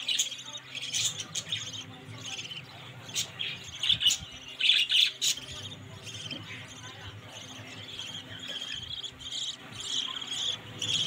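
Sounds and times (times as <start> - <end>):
budgerigars squawking and chirping: 0.0 - 11.0.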